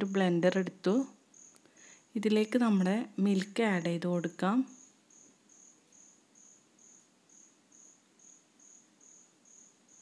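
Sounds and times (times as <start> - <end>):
faint cricket chirping: 0.0 - 10.0.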